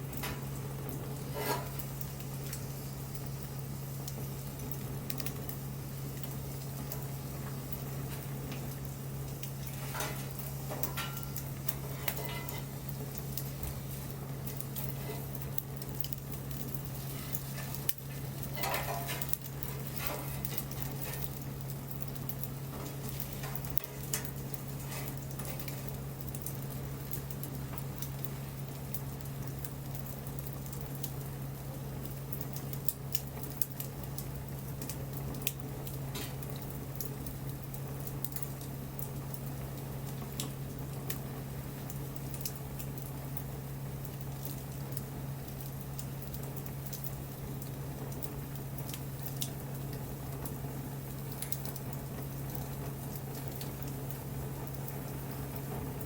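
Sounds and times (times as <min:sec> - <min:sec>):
bonfire crackling and popping: 0:00.0 - 0:56.0
hissing flare-up: 0:00.0 - 0:56.0
steady low hum: 0:00.0 - 0:56.0.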